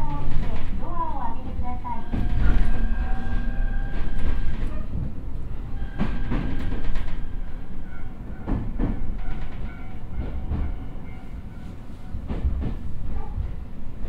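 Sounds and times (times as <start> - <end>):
wheels clacking over rail joints: 0.0 - 11.6
train wheels rumbling on rail: 0.0 - 14.0.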